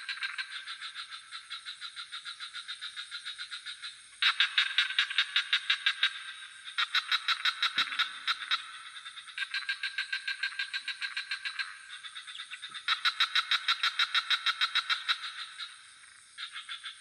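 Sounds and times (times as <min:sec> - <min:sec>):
frog chorus trilling: 0:00.0 - 0:17.0
insect trill: 0:00.0 - 0:17.0.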